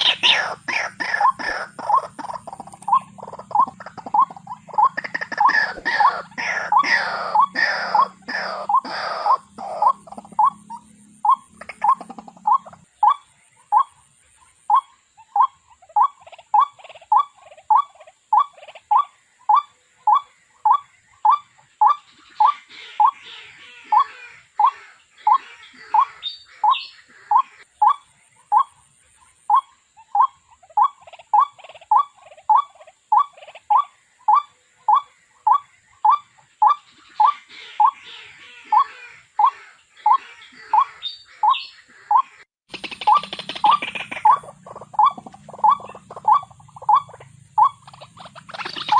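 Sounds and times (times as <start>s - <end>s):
water hen calling: 0.0s - 48.9s.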